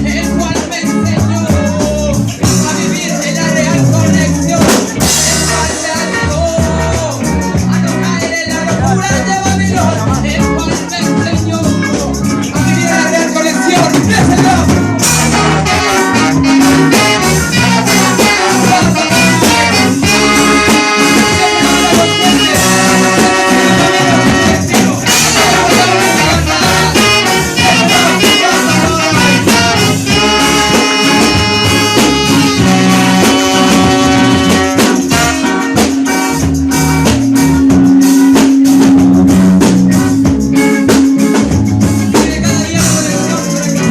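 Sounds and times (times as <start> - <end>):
horn section music: 0.0 - 10.1, 11.0 - 43.9
steady beat: 0.1 - 43.9.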